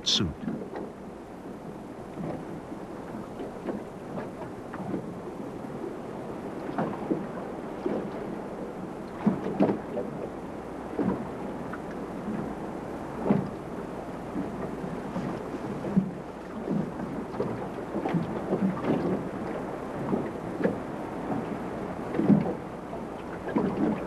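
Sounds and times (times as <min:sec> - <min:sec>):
water lapping against boat hull: 0:00.0 - 0:24.0.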